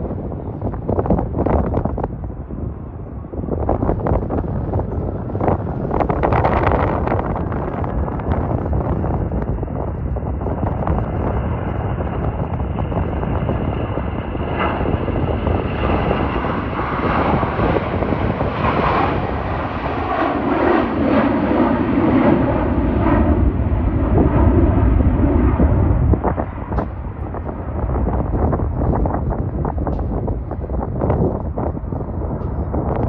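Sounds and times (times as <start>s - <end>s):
jet engine roar: 0.0s - 33.0s
wind buffeting microphone: 0.0s - 33.0s.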